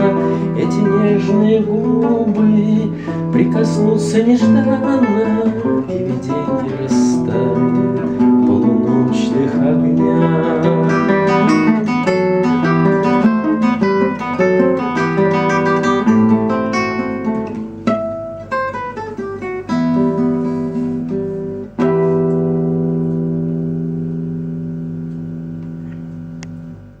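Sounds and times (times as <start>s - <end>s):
acoustic guitar picking and strumming: 0.0s - 27.0s.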